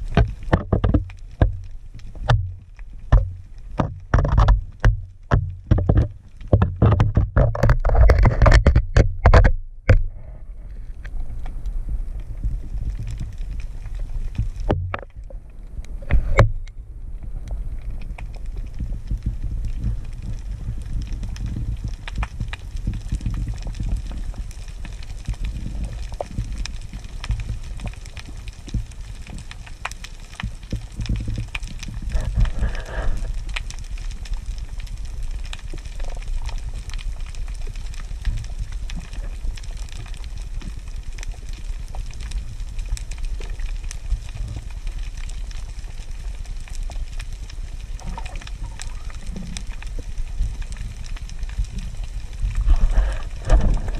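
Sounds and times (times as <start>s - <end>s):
faint underwater clicks and crackles: 0.0s - 53.9s
muffled underwater rumble: 0.0s - 53.9s.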